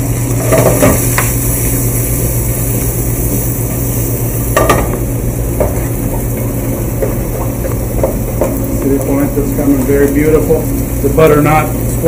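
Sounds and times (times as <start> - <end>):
food sizzling in a pan: 0.0 - 12.0
steady low hum: 0.0 - 12.0.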